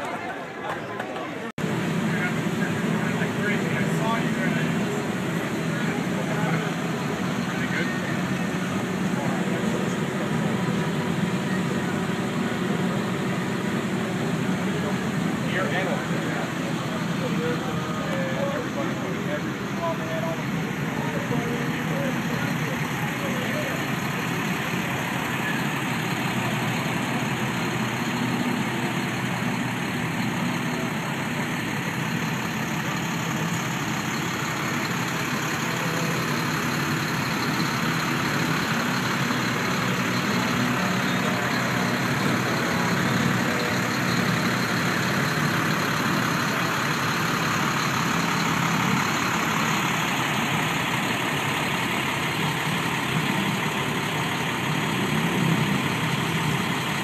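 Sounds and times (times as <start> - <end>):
motorcycle engines idling: 1.6 - 57.0.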